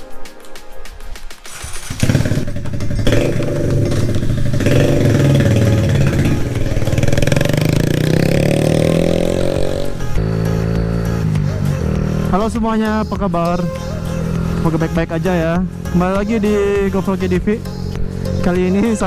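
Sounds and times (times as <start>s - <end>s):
motorcycle engine starting and revving: 1.4s - 19.0s.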